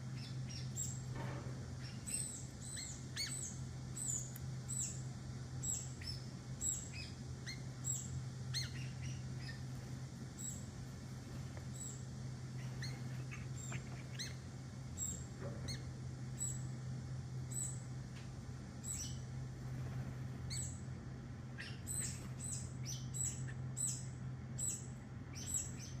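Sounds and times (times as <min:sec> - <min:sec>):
birds chirping high: 0:00.0 - 0:26.0
steady low hum: 0:00.0 - 0:26.0.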